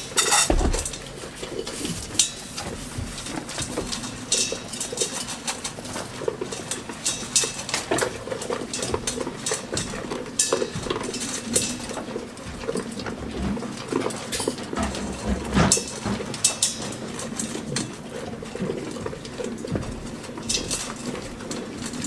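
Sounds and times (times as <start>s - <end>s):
goats chewing feed: 0.0s - 22.0s.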